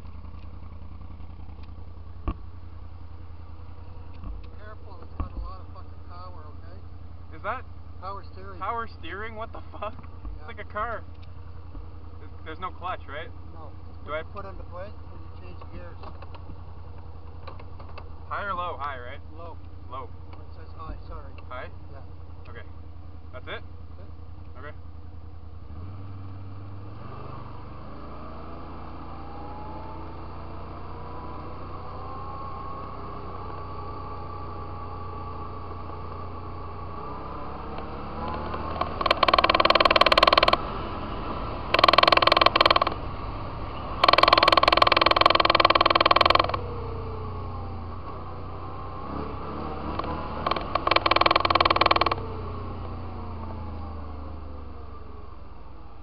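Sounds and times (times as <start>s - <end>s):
off-road vehicle engine revving: 0.0s - 55.8s.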